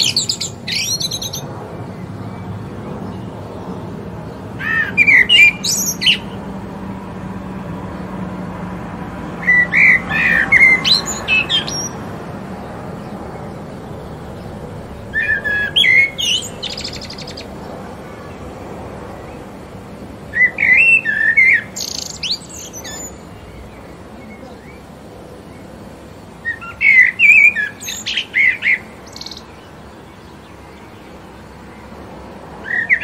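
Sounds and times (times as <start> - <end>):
songbird singing: 0.0 - 33.0
steady background hiss: 0.0 - 33.0.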